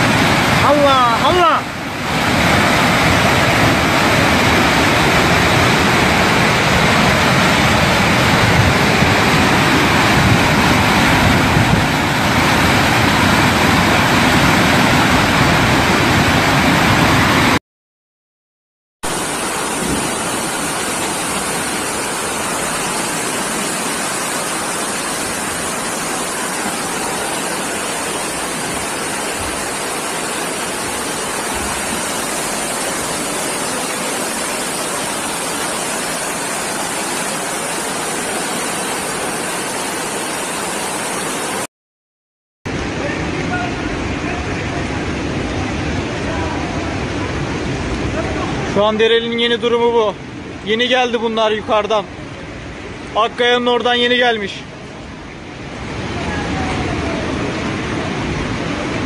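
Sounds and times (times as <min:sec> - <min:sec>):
floodwater rushing: 0:00.0 - 0:17.6, 0:19.0 - 0:41.7, 0:42.7 - 0:59.0.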